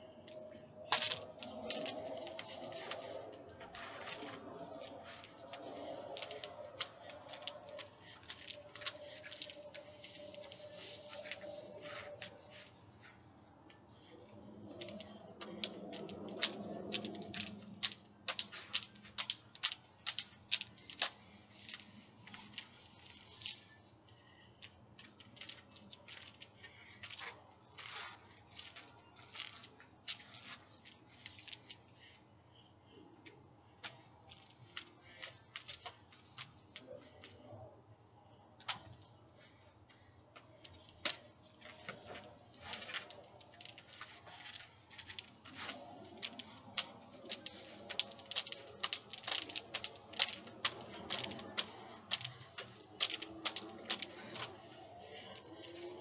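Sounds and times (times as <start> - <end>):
plastic hula hoop clicking: 0.3 - 12.8, 13.7 - 23.8, 24.6 - 32.1, 33.2 - 37.4, 38.6 - 39.2, 39.8 - 56.0.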